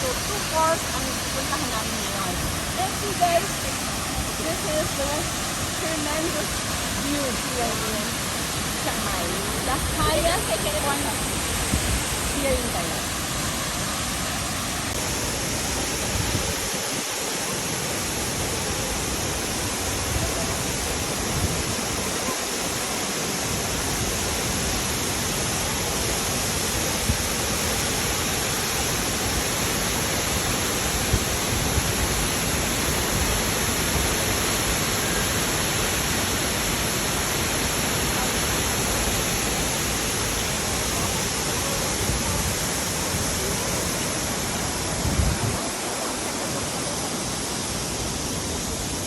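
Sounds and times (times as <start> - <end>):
waterfall roaring: 0.0 - 49.0.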